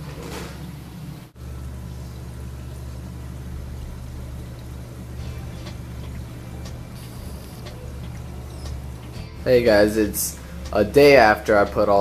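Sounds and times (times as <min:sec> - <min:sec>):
aquarium pump hum: 0:00.0 - 0:12.0
trickling water: 0:01.4 - 0:12.0.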